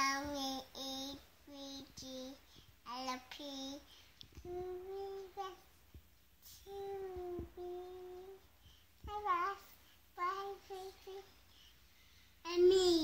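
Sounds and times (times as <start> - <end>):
toddler singing wordlessly: 0.0 - 5.8, 6.4 - 11.7, 12.4 - 13.0.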